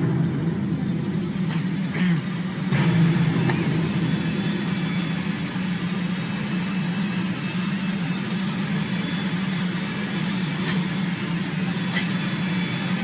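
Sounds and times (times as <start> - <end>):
low droning hum: 0.0 - 13.0.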